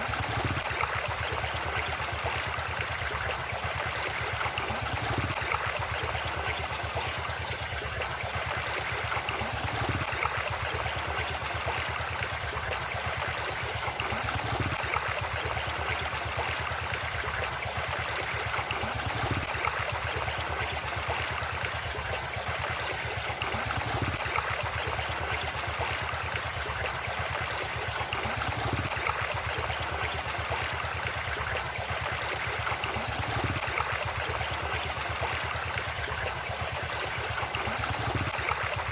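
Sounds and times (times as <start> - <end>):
river water flowing and gurgling: 0.0 - 38.9.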